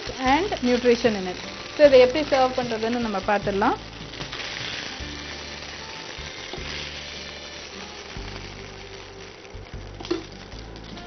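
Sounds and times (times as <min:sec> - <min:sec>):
background music low notes: 0:00.0 - 0:11.0
rice sizzling in a pan: 0:00.0 - 0:11.0.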